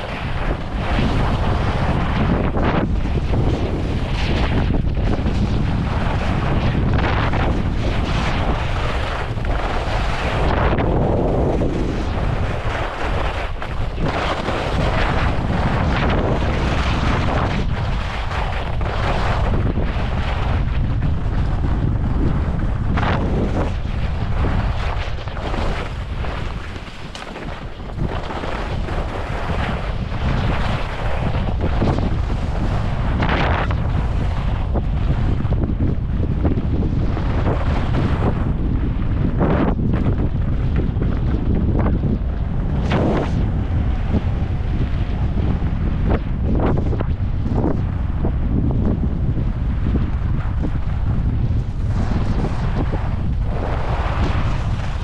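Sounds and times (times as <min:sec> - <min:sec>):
skis scraping over snow: 0:00.0 - 0:55.0
wind buffeting microphone: 0:00.0 - 0:55.0.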